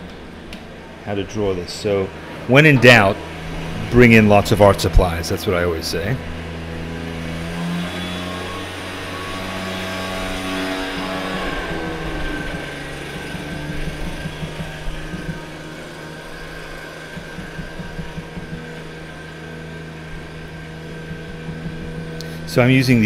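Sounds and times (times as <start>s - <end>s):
leaf blower running: 0.0s - 23.0s.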